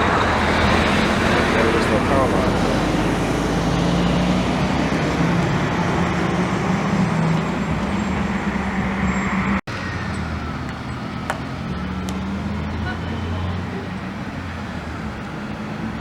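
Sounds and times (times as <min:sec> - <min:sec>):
road traffic engine hum: 0:00.0 - 0:16.0.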